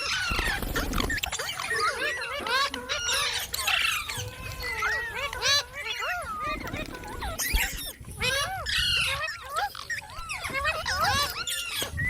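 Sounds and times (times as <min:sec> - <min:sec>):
parakeets chattering and squawking: 0:00.0 - 0:12.0.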